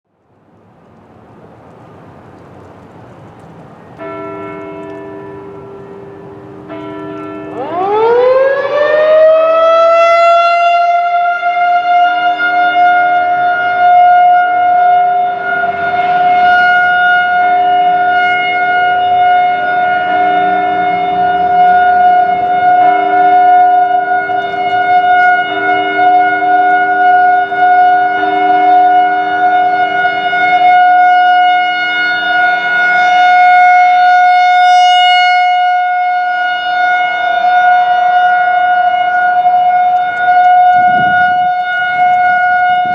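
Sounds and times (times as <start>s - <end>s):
warning siren wailing: 3.9s - 42.9s.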